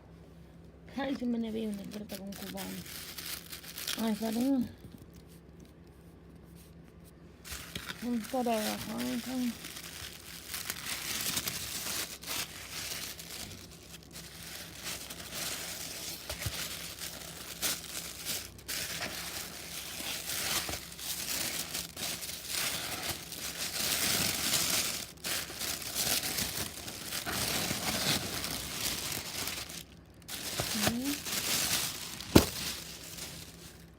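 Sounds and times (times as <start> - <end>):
packaging crinkling and rustling: 1.1 - 5.9, 6.6 - 33.9
packaging tearing: 1.8 - 4.5, 7.5 - 33.9.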